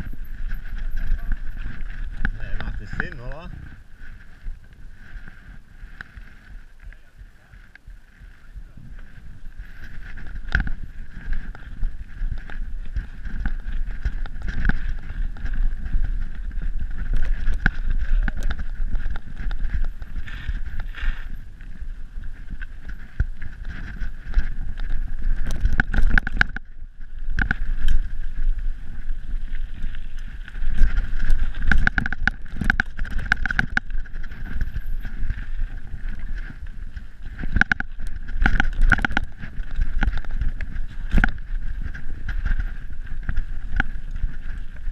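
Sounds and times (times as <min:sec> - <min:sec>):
bike clattering over bumps: 0:00.0 - 0:06.5, 0:08.9 - 0:44.9
bike tyres rumbling: 0:00.0 - 0:44.9
wind buffeting microphone: 0:00.0 - 0:44.9.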